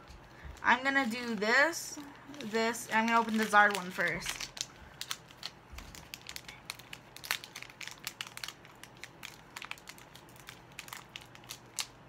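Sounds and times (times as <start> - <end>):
foil wrapper crinkling: 0.1 - 12.0.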